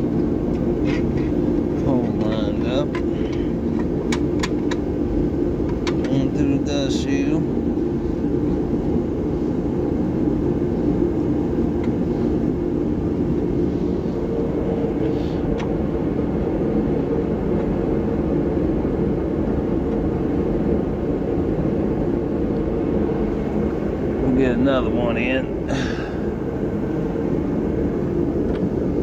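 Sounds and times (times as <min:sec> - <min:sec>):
low mechanical drone: 0:00.0 - 0:29.0.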